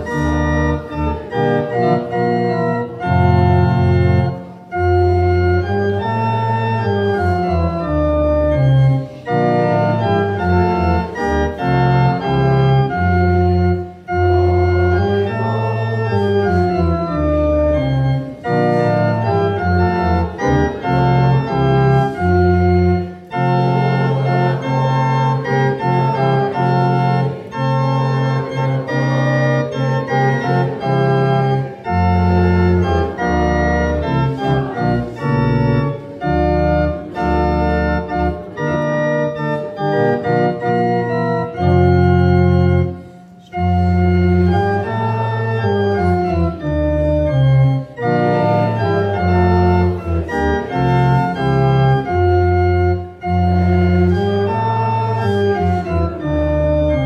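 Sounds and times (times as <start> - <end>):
organ playing a hymn: 0.0 - 57.0.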